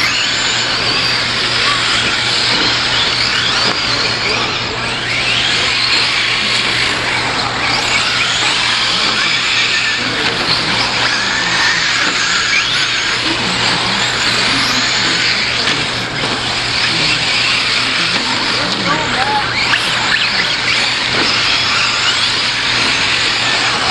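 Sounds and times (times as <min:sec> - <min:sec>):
rc truck motors whining: 0:00.0 - 0:23.9.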